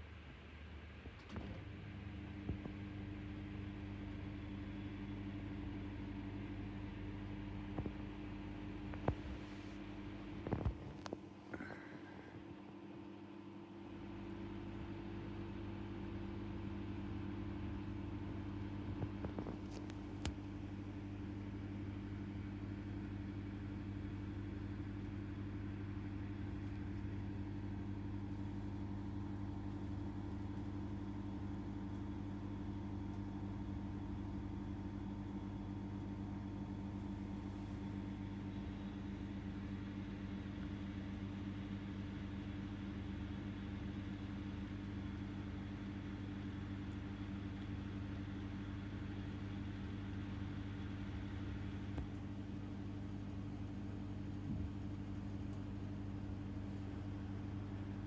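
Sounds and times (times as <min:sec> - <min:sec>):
household appliance humming: 0:01.3 - 0:58.0.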